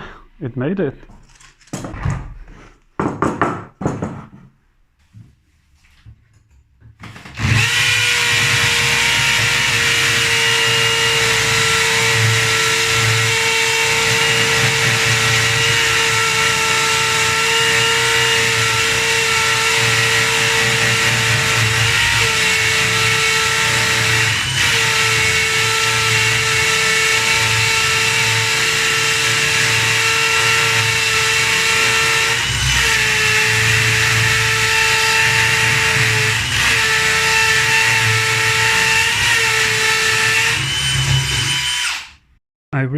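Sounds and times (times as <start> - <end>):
cordless drill drilling: 7.0 - 42.2.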